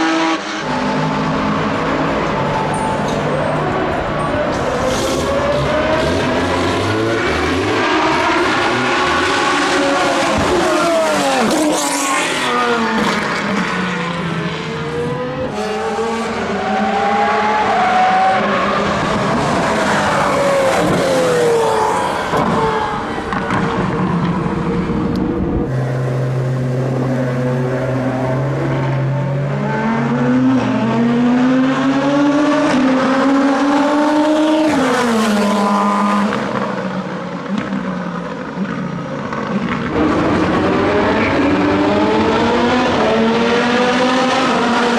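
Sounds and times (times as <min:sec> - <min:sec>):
racing car engines passing: 0:00.0 - 0:44.9.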